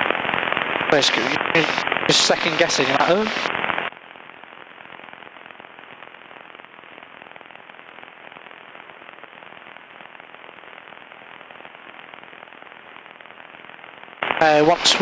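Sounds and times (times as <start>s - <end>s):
radio static crackling: 0.0s - 15.0s.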